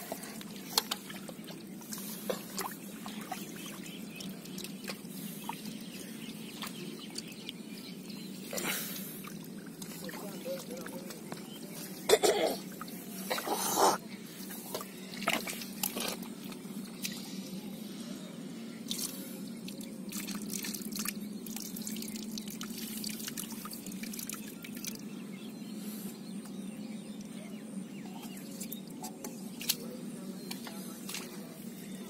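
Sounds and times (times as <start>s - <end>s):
muddy water splashing: 0.2s - 17.6s, 18.8s - 25.2s, 28.4s - 32.0s.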